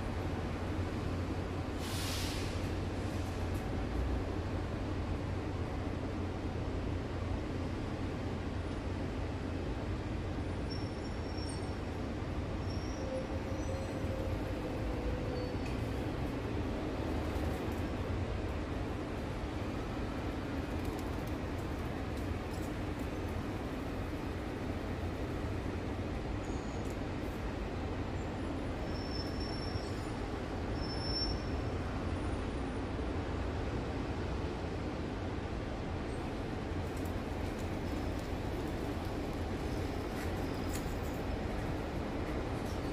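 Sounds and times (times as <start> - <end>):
distant city rumble: 0.0 - 42.9.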